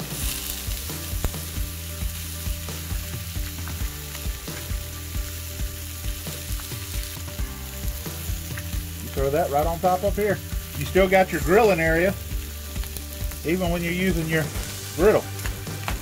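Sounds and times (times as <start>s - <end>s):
food sizzling on a griddle: 0.0s - 16.0s
grease popping: 0.0s - 16.0s.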